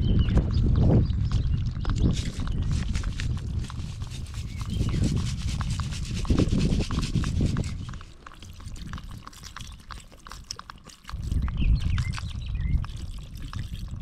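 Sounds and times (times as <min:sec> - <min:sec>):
water pouring and splashing: 0:01.9 - 0:14.0.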